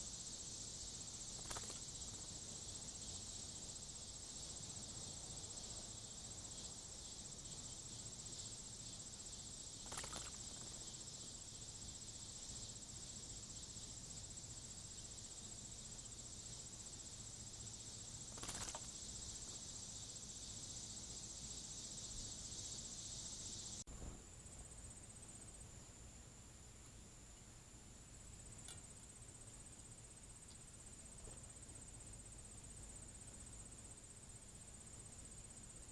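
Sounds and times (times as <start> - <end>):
insects chorus: 0.0 - 35.9.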